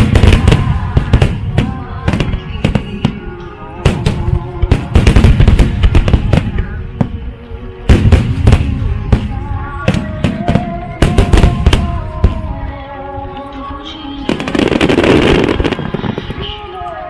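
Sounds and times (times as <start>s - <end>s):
fireworks bangs and crackles: 0.0s - 12.7s, 14.3s - 16.9s.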